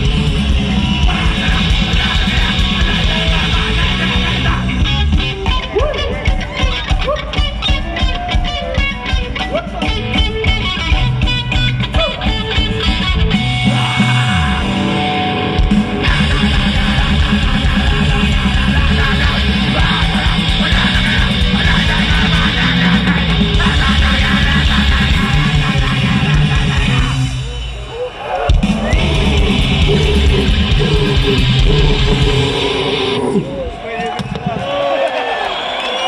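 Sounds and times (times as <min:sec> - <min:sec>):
punk band playing live: 0:00.0 - 0:34.8.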